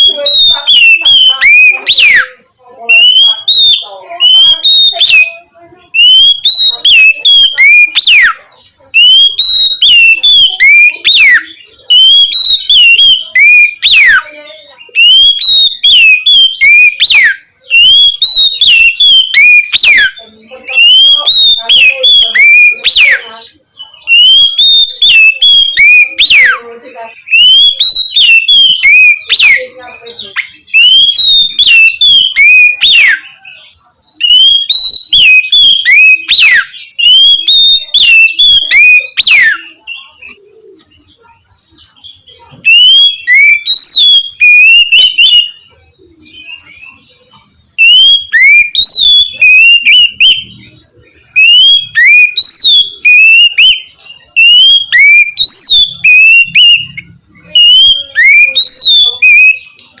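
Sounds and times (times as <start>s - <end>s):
bird singing whistled notes: 0.0s - 60.0s.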